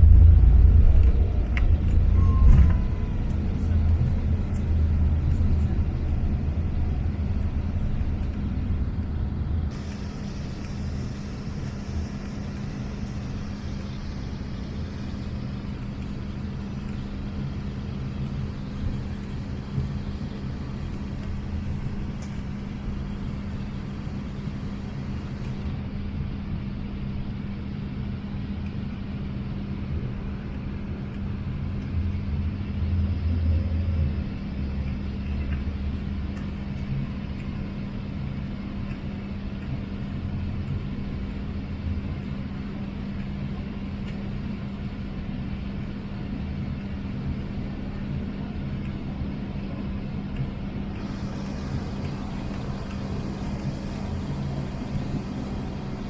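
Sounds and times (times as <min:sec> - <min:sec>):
airliner engine and airflow rumble: 0:00.0 - 0:56.0
constant cabin hum: 0:00.0 - 0:56.0.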